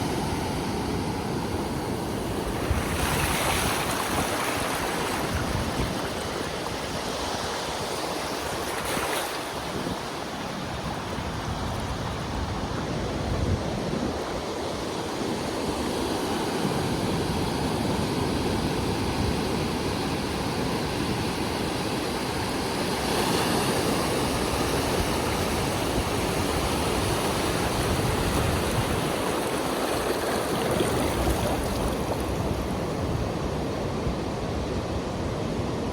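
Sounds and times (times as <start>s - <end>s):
ocean waves breaking on beach: 0.0s - 35.9s.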